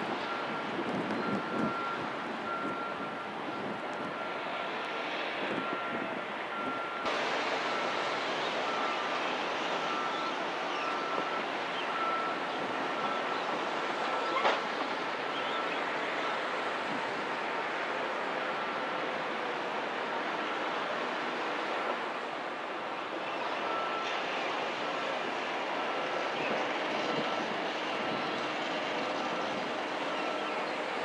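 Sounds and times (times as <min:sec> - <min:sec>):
construction site noise: 0:00.0 - 0:31.0.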